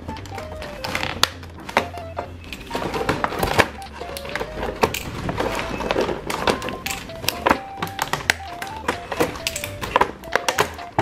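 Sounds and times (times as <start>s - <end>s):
packaging rustling: 0.0s - 11.0s
simple melody background music: 0.0s - 11.0s
plastic toy coins clicking: 1.8s - 11.0s.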